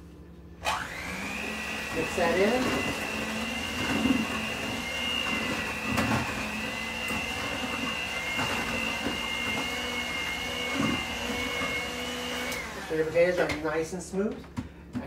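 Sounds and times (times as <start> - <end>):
electric hand mixer whining: 0.6 - 13.5.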